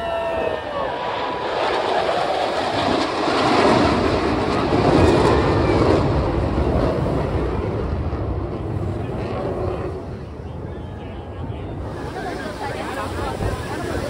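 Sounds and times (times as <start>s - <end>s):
jet roar flying past: 0.0s - 14.0s.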